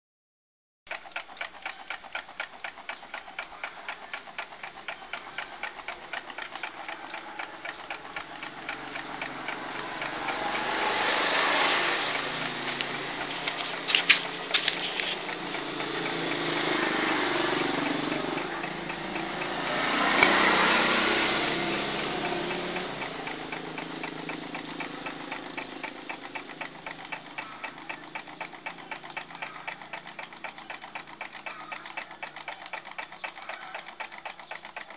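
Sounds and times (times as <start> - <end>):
sharp clicks: 0.9 - 34.9
stirling engine ticking: 0.9 - 34.9.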